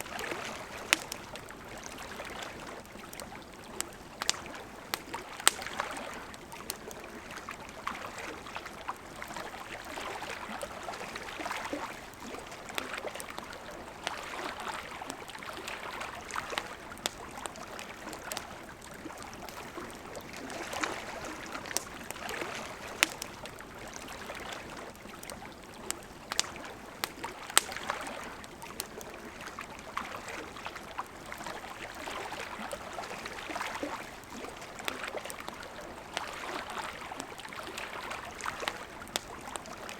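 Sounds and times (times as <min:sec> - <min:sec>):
campfire crackling and popping: 0:00.0 - 0:39.9
river water flowing: 0:00.0 - 0:39.9.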